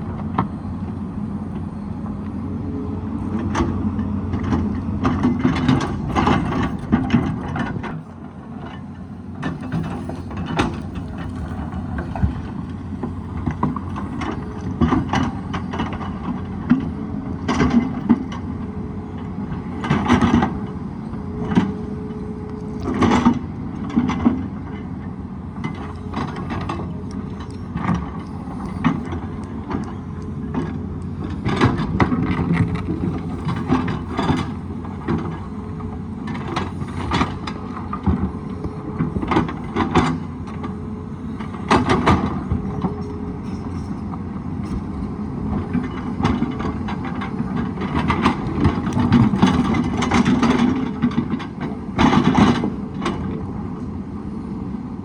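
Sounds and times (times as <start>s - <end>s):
excavator clanks and knocks: 0.0s - 54.7s
excavator diesel engine running: 0.0s - 55.0s.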